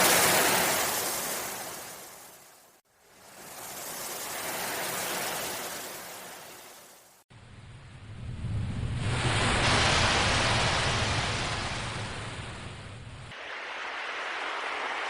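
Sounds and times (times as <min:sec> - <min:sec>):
ocean waves surging: 0:00.0 - 0:02.7, 0:03.4 - 0:07.2, 0:08.8 - 0:15.0.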